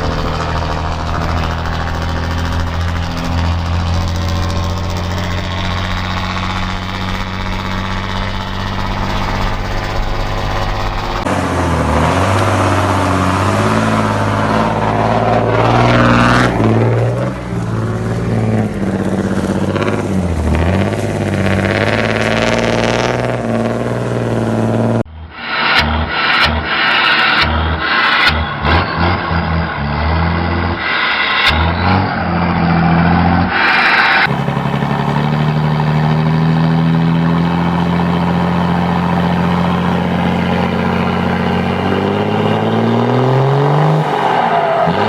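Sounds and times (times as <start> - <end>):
diesel truck engine revving: 0.0 - 45.0
turbo whine: 0.0 - 45.0.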